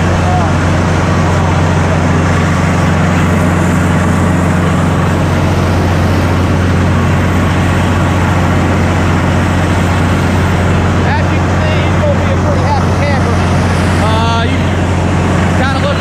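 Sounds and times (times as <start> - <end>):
drilling rig engine drone: 0.0 - 16.0.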